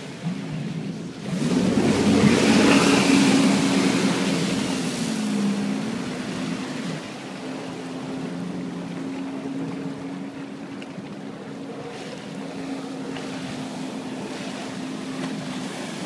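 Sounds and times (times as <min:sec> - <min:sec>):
rushing water spray: 0:00.0 - 0:10.6, 0:11.6 - 0:16.0
jet ski passing at speed: 0:00.0 - 0:16.0.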